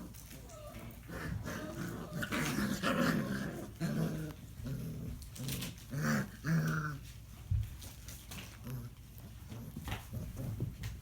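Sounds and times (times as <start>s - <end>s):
puppies growling: 0.0s - 7.3s, 8.4s - 11.0s.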